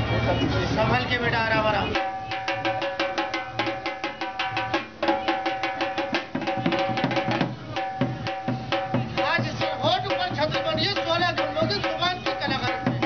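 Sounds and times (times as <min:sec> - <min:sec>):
barrel drum played fast: 0:01.9 - 0:13.0.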